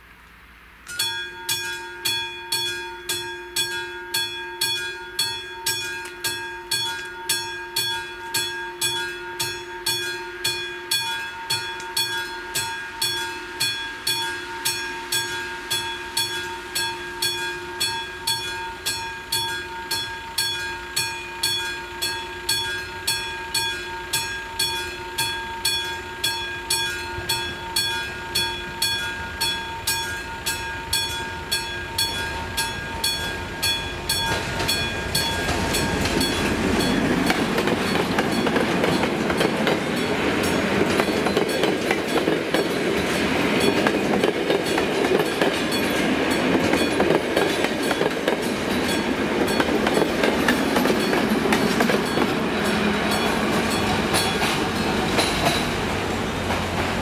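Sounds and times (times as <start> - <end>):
level crossing warning bell: 0.8 - 57.0.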